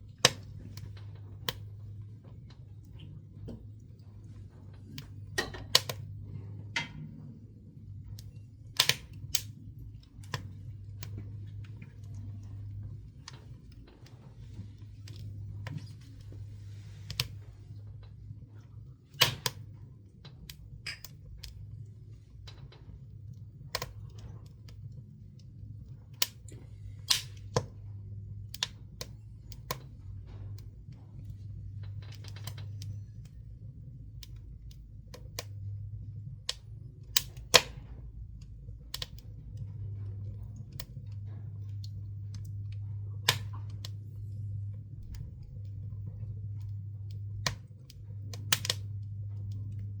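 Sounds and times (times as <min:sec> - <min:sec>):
steady low hum: 0:00.0 - 0:50.0
wood crackling in stove: 0:00.0 - 0:50.0.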